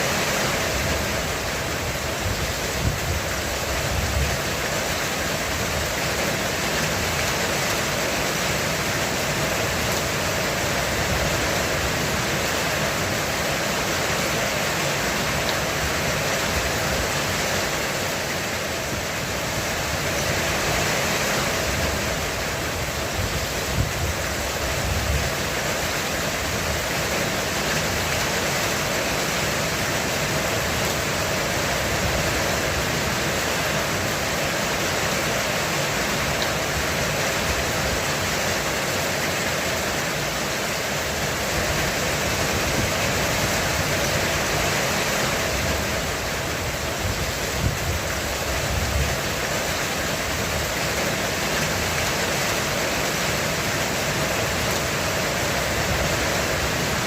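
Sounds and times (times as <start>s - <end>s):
heavy rain drumming on a roof: 0.0s - 57.0s.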